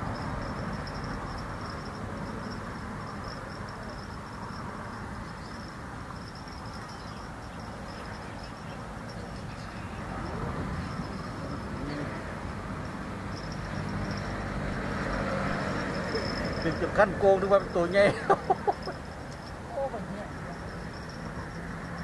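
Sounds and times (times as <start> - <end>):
high wavering buzz: 0.0 - 22.0.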